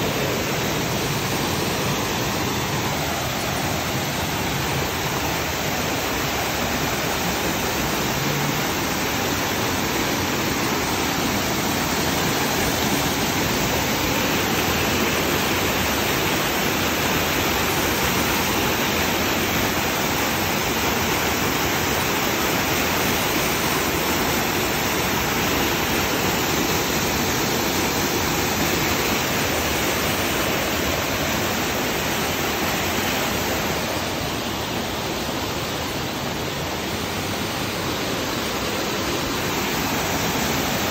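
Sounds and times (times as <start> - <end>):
waterfall splashing over rocks: 0.0 - 40.9.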